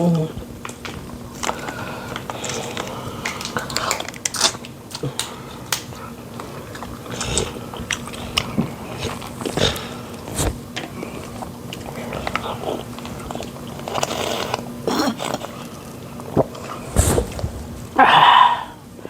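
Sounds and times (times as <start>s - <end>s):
chewing and lip smacks: 0.6s - 17.5s.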